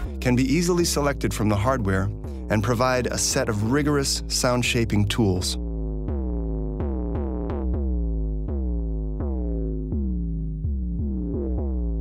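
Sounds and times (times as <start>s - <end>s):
steady deep bass: 0.0s - 12.0s.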